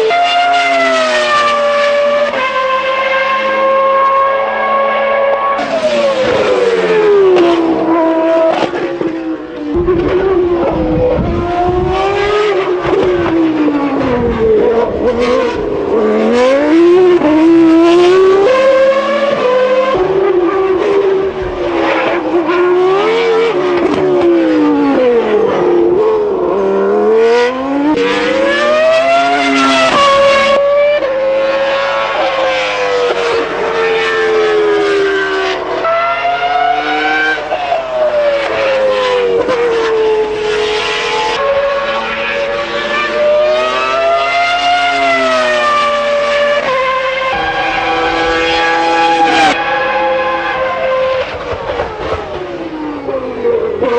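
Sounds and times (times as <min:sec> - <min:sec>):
racing car engine revving: 0:00.0 - 0:53.9.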